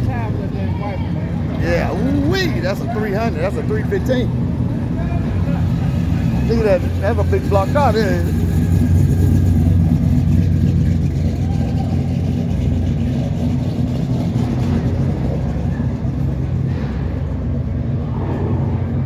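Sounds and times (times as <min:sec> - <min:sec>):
car exhaust rumbling: 0:00.0 - 0:19.0.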